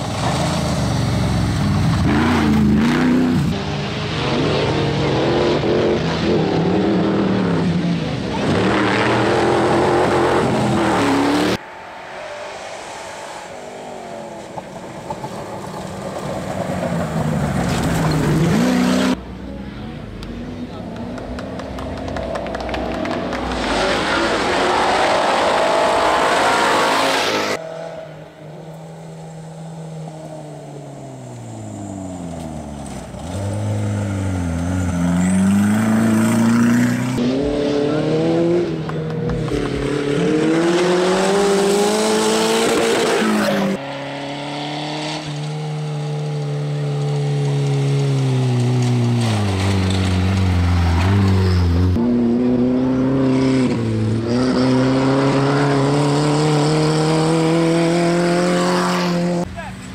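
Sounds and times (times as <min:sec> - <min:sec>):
off-road engines revving: 0:00.0 - 0:11.6, 0:12.5 - 0:59.9.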